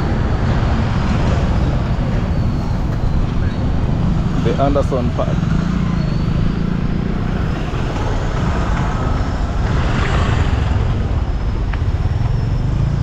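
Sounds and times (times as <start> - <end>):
vehicle road noise rumble: 0.0 - 13.0.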